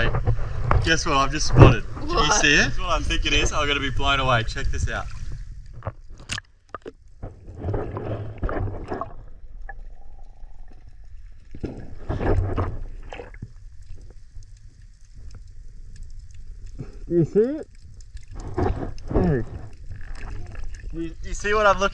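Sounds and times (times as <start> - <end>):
underwater sloshing and gurgling: 0.0 - 2.0, 2.6 - 21.9
water splashing: 0.8 - 21.9.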